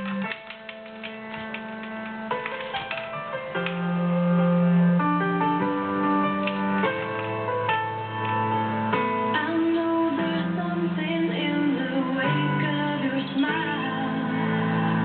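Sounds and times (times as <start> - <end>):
music of sustained chords: 0.0 - 15.0.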